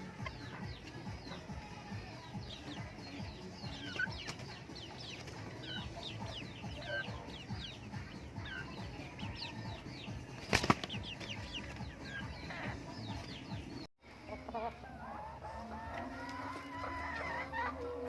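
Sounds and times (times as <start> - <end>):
chicks peeping: 0.0 - 18.0
low farmyard rumble: 0.0 - 18.0.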